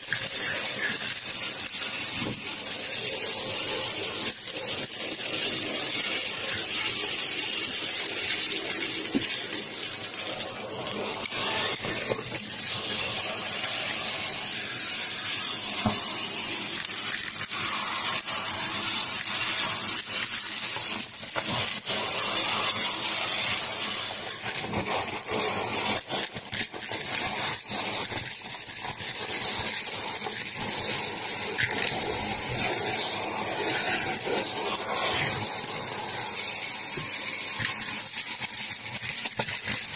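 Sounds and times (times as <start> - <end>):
debris rattling up hose: 0.0 - 39.9
vacuum cleaner suction: 0.0 - 39.9.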